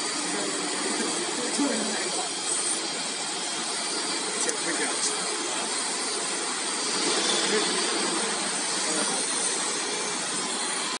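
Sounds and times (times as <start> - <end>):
vacuum blower roaring: 0.0 - 11.0.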